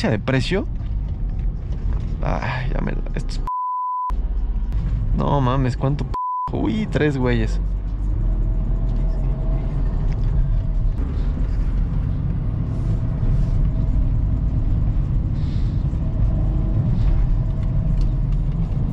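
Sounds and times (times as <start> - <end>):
car engine running: 0.0 - 3.5, 4.1 - 18.9
road noise: 0.0 - 18.9.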